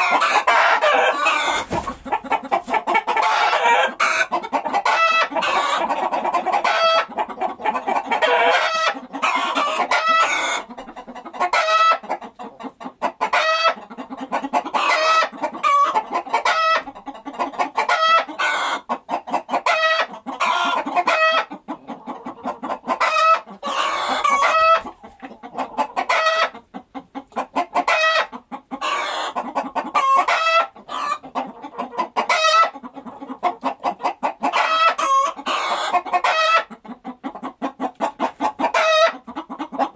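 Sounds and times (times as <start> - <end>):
chickens clucking and squawking: 0.0 - 39.9.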